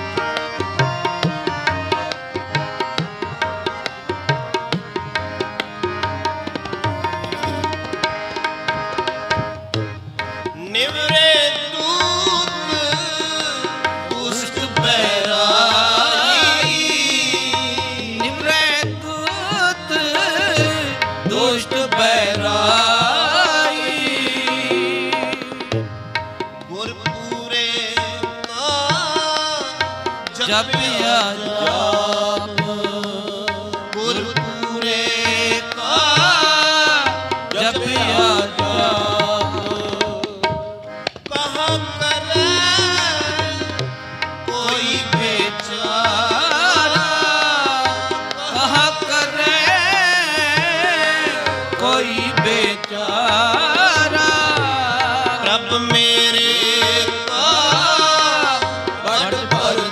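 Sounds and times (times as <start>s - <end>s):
harmoniums playing: 0.0s - 59.9s
tabla playing: 0.0s - 59.9s.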